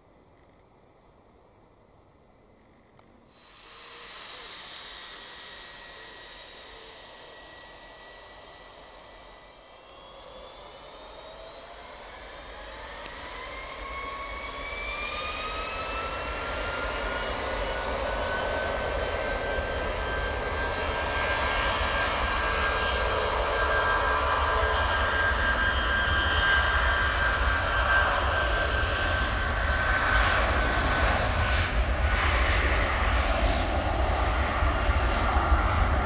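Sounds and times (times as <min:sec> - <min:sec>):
jet engine roar: 0:02.4 - 0:36.0
jet engines whining: 0:02.4 - 0:36.0.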